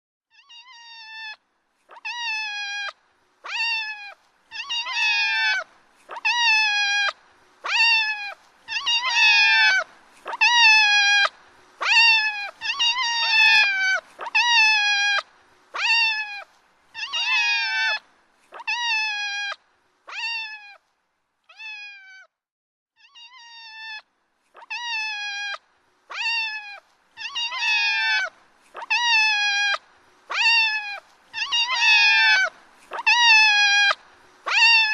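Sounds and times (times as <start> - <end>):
kitten meowing: 0.3 - 2.9, 3.5 - 15.2, 15.8 - 16.4, 17.0 - 18.0, 18.6 - 20.8, 21.5 - 22.3, 23.0 - 24.0, 24.6 - 34.9.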